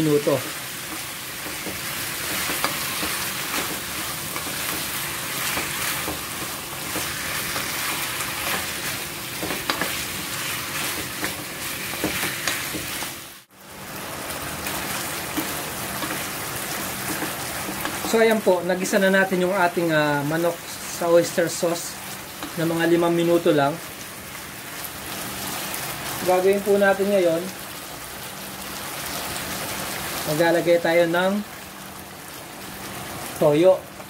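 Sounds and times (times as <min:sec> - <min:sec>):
chicken sizzling in a frying pan: 0:00.0 - 0:34.0.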